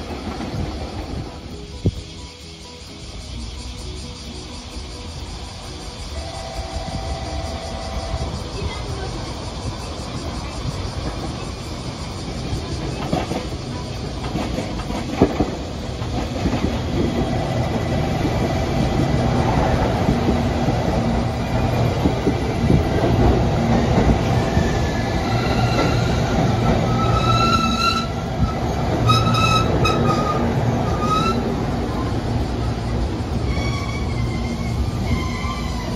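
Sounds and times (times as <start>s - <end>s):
train rumbling on rails: 0.0s - 35.9s
wheels squealing: 0.0s - 35.9s.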